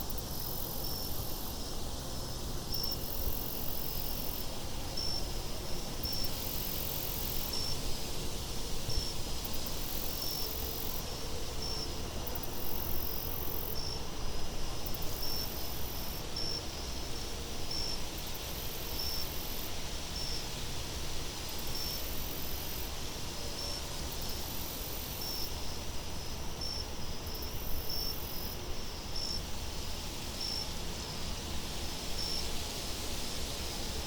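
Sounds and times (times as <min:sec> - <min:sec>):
crickets chirping: 0:00.0 - 0:34.0
wind-like hiss: 0:00.0 - 0:34.0.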